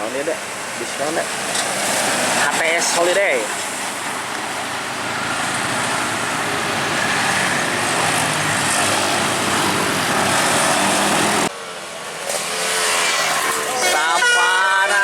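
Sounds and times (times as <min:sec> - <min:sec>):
bus passing: 0:00.0 - 0:15.0.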